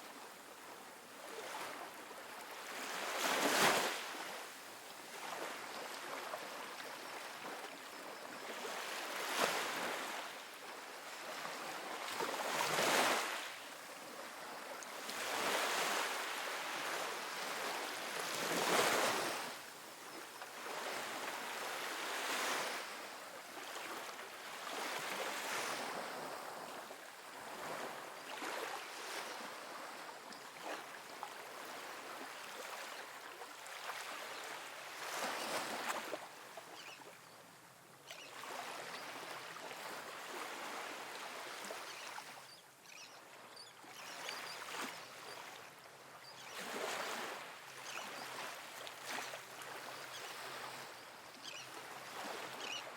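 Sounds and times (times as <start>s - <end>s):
ocean waves on sandy beach: 0.0s - 37.0s, 38.2s - 42.6s, 43.2s - 52.9s.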